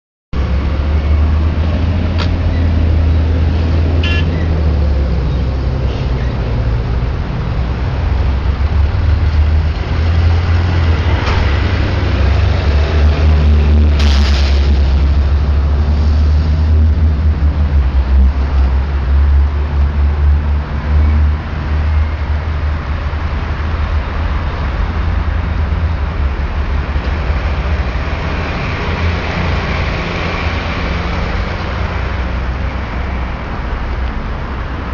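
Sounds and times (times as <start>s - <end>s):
fire truck engine rumbling: 0.4s - 34.9s.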